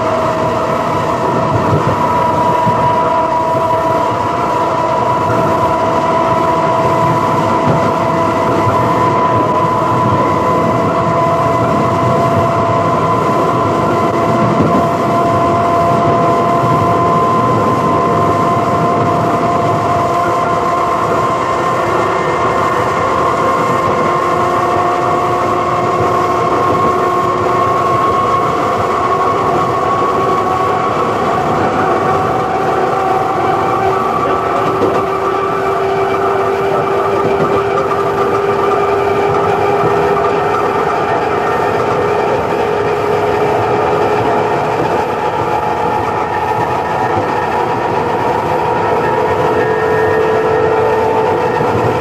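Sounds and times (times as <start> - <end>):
electric train motors whining: 0.0 - 52.0
wheels rumbling on rails: 0.0 - 52.0.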